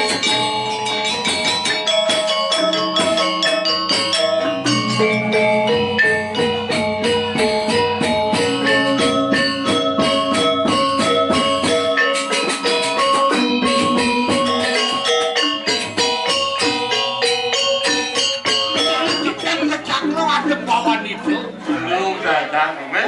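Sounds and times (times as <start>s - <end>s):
jingling cymbal-like percussion: 0.0s - 21.7s.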